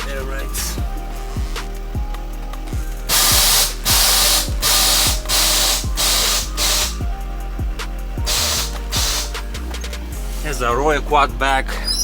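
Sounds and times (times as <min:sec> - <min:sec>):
compressed air hissing: 0:00.0 - 0:11.1
background music with steady beat: 0:00.0 - 0:12.0.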